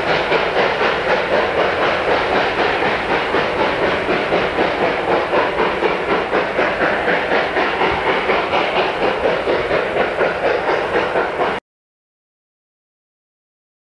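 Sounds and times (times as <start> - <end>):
steam hiss: 0.0 - 11.6
steam locomotive chuffing: 0.0 - 11.6.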